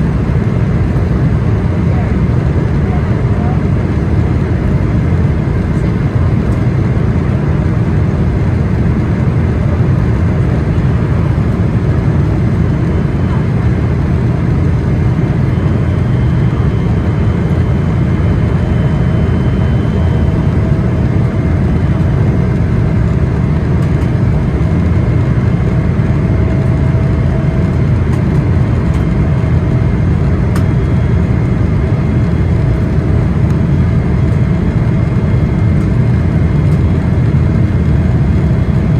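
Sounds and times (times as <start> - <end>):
airplane engines rumbling in cabin: 0.0 - 38.9.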